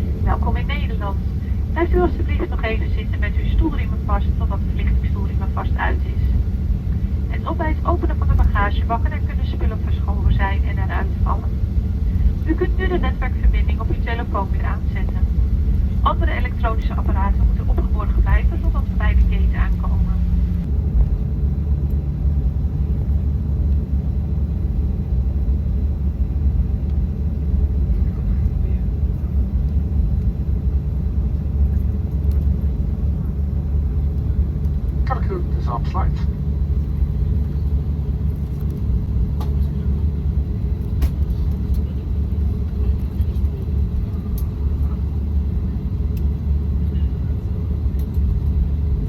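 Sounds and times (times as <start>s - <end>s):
aircraft engines idling: 0.0s - 49.0s
airliner cabin rumble: 0.0s - 49.0s.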